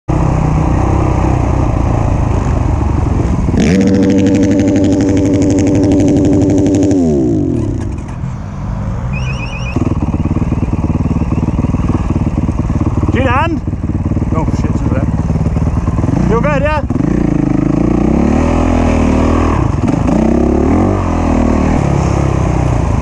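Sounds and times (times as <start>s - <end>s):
dirt bike engine revving: 3.5s - 8.1s, 9.1s - 23.0s.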